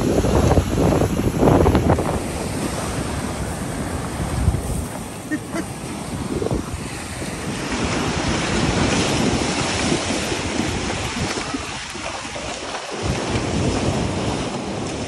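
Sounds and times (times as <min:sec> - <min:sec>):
horses splashing in water: 0:00.0 - 0:15.0
ocean surf breaking: 0:00.0 - 0:15.0
wind buffeting microphone: 0:00.0 - 0:15.0.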